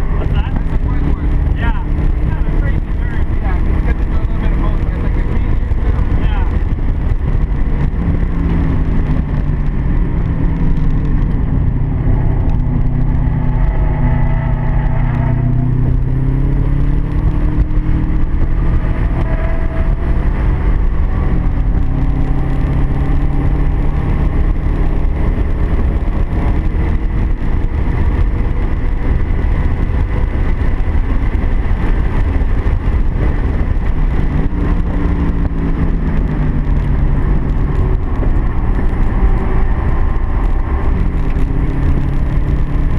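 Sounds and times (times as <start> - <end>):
car engine running hard: 0.0 - 42.9
road and wind noise: 0.0 - 42.9.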